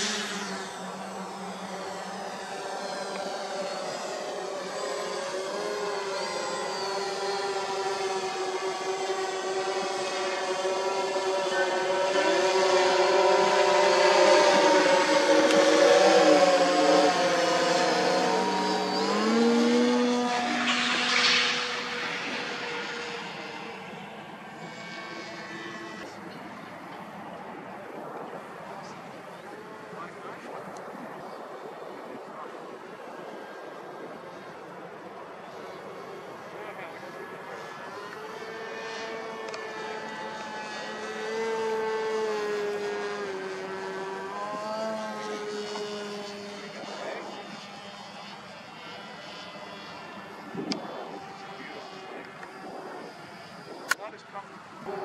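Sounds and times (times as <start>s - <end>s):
model plane motor whine: 0.0s - 55.0s.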